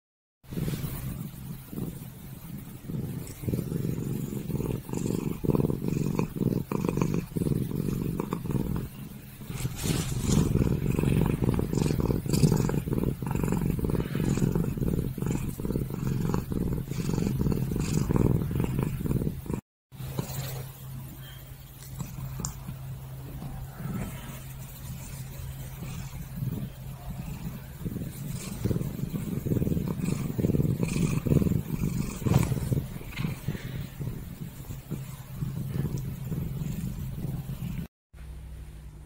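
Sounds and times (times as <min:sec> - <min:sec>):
kitten purring: 0:00.4 - 0:37.9.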